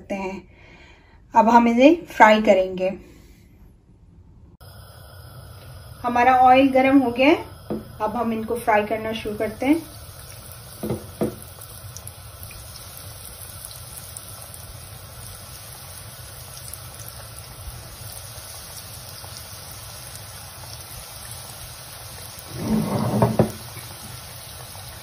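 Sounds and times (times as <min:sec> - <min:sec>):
food sizzling in hot oil: 0:04.6 - 0:25.0.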